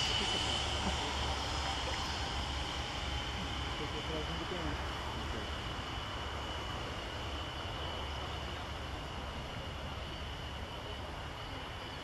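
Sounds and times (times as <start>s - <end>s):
jet engines rumbling with whine: 0.0s - 12.0s.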